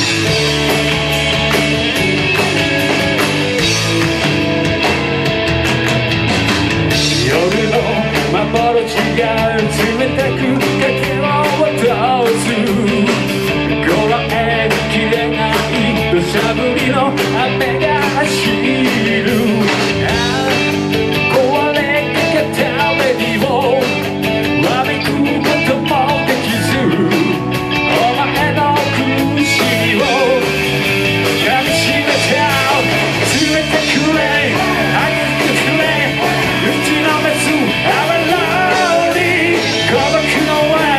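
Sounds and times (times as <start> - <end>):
bending lead guitar line: 0.0 - 40.9
rock band playing live: 0.0 - 40.9.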